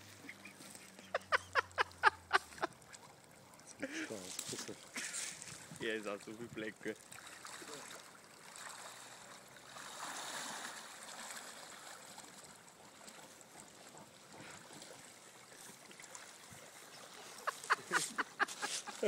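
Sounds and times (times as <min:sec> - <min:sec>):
creek water splashing: 0:00.0 - 0:19.0.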